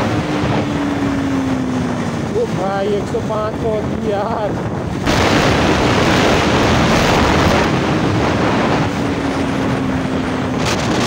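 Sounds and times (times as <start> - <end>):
motorcycle engine: 0.0 - 11.0
wind rushing on microphone: 0.0 - 11.0.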